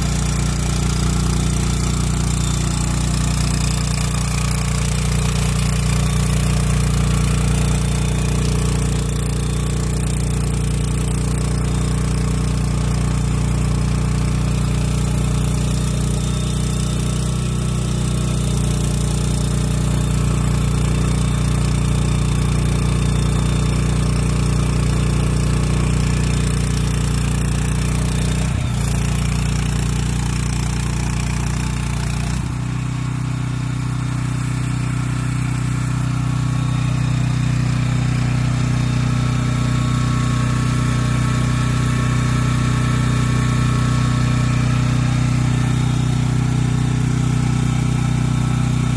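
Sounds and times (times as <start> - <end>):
generator engine running: 0.0 - 48.9.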